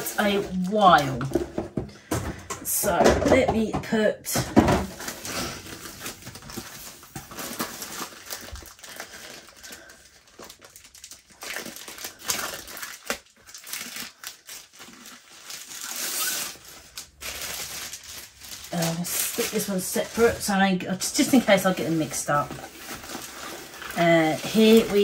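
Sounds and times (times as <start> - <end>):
plastic wrapping crinkling: 0.0 - 2.4, 4.8 - 25.0.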